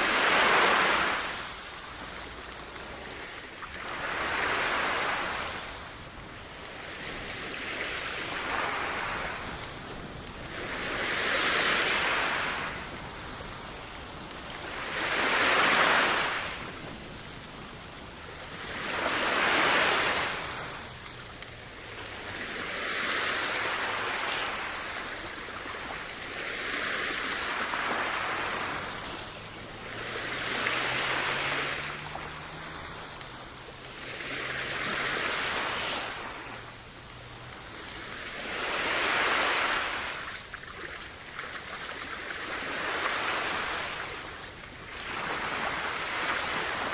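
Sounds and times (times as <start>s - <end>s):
sea waves washing onto shore: 0.0s - 46.9s.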